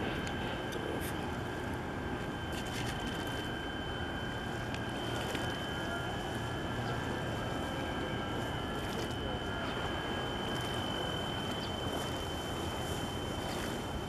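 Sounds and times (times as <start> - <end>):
high-pitched whine: 0.0 - 14.0
low rumble of distant machinery: 0.0 - 14.0.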